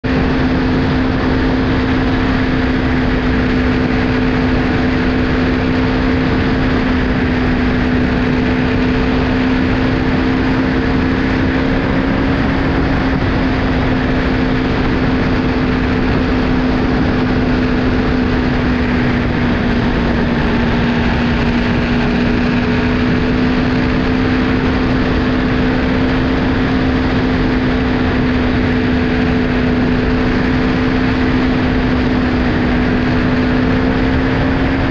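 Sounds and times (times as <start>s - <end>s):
motorcycle engine cruising: 0.0s - 34.9s
wind and road noise: 0.0s - 34.9s.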